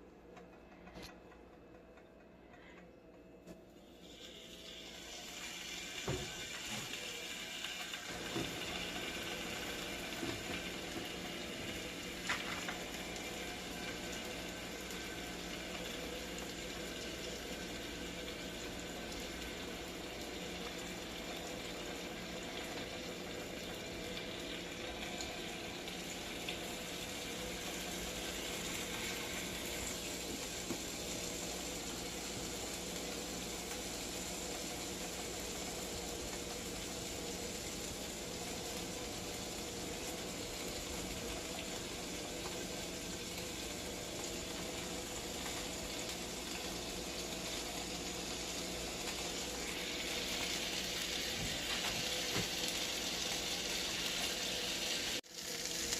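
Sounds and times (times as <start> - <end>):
food sizzling on a grill: 3.9 - 55.9.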